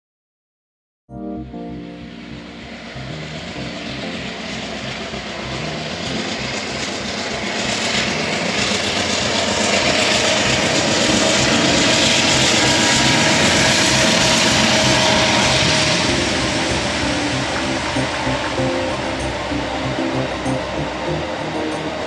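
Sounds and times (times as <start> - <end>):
steady high tone: 1.1 - 22.0
diesel locomotive engine: 1.5 - 22.0
train wheels on rails: 2.6 - 22.0.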